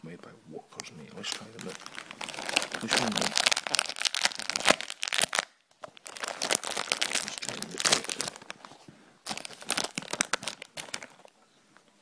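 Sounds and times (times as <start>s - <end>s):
crisp packet crinkling: 1.2s - 11.3s.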